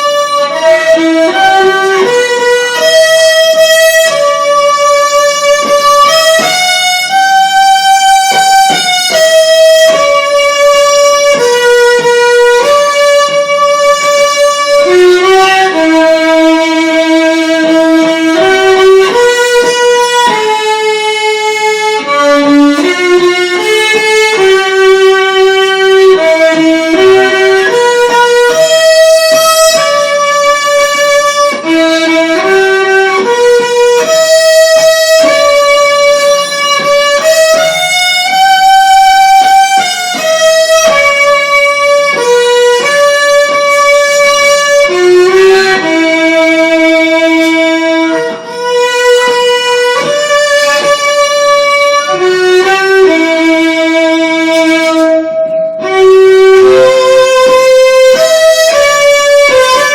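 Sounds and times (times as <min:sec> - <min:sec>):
violin playing slow melody: 0:00.0 - 0:59.9.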